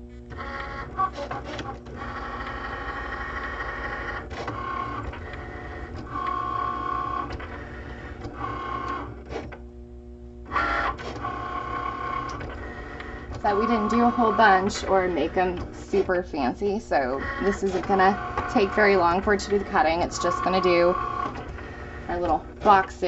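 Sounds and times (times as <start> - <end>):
cutting machine motors whining: 0.0 - 9.8, 10.4 - 23.0.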